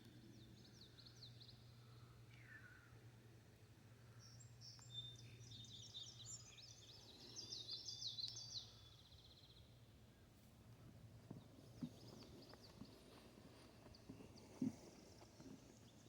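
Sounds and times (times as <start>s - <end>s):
songbird singing: 0.0s - 3.0s, 4.0s - 10.2s, 11.2s - 16.0s.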